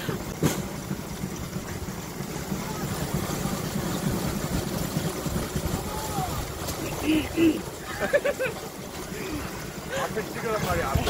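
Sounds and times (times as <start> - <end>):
steel wheels rumbling on track: 0.0 - 11.0.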